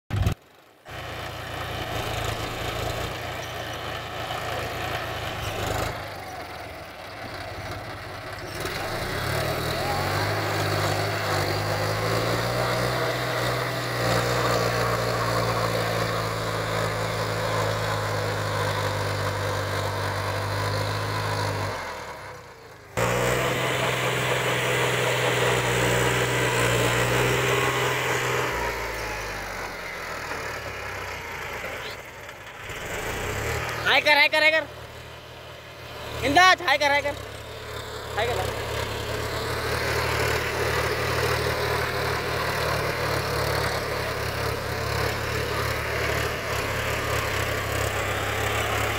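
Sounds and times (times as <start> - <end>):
tractor diesel engine under load: 0.1 - 48.9.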